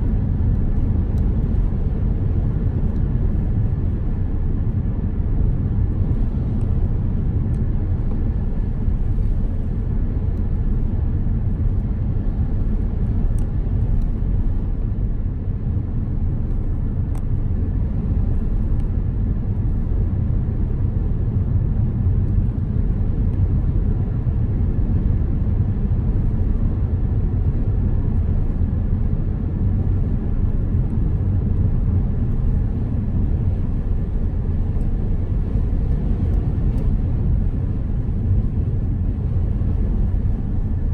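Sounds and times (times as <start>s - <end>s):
car tyres and engine rumble: 0.0s - 40.9s.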